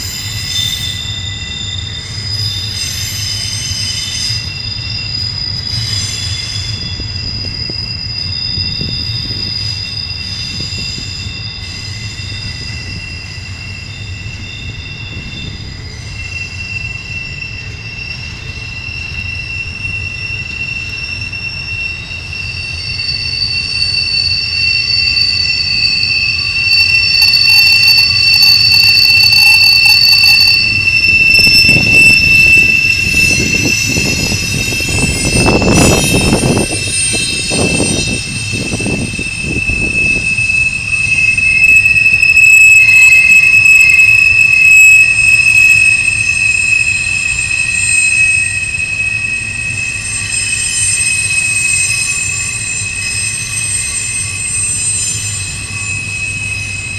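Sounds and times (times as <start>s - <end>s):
low rumble of train wheels: 0.0s - 56.9s
wheel flanges squealing: 0.0s - 56.9s.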